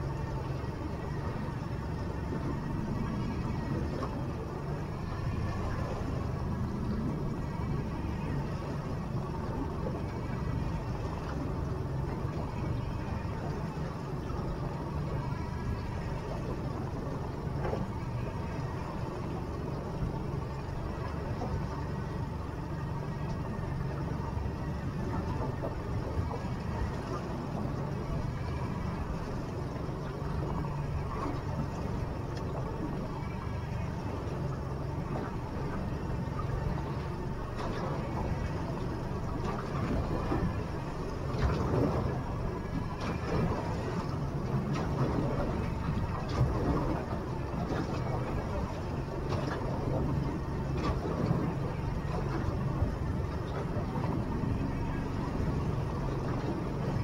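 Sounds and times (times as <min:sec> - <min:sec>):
outboard motor droning: 0:00.0 - 0:57.0
water washing around hull: 0:00.0 - 0:57.0.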